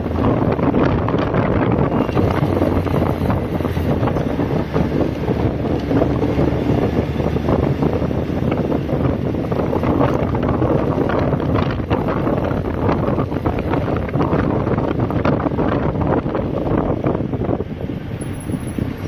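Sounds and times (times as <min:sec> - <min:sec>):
motorcycle engine drone: 0:00.0 - 0:19.0
wind buffeting microphone: 0:00.0 - 0:19.0.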